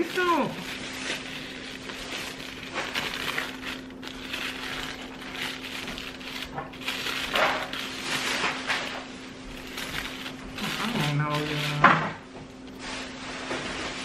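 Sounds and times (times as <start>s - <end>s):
tissue paper rustling: 0.0s - 14.0s.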